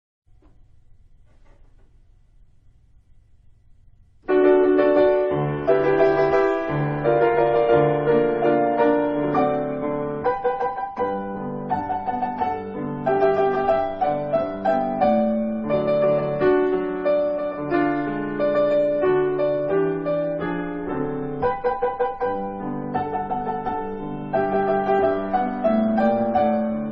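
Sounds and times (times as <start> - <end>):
solo piano music: 4.2 - 26.9.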